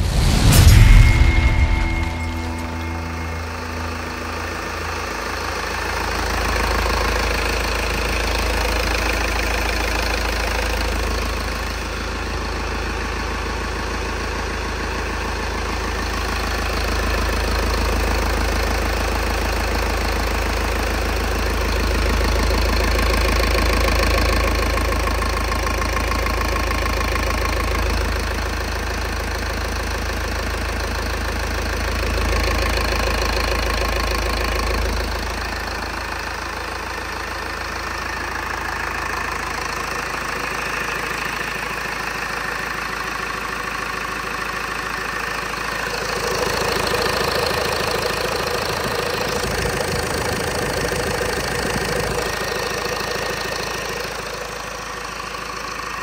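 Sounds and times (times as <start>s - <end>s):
diesel engine idling: 2.4s - 56.0s.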